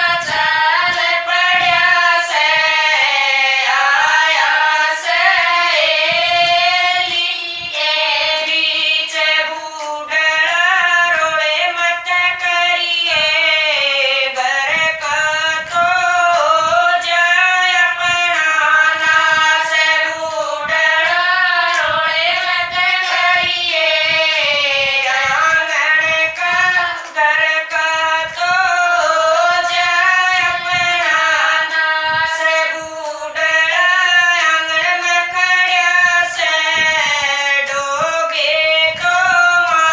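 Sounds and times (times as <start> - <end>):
women singing devotional song: 0.0 - 39.9.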